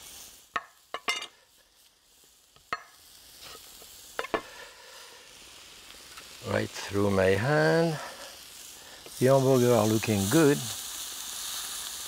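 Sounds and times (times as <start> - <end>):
burgers sizzling on griddle: 0.0 - 12.0.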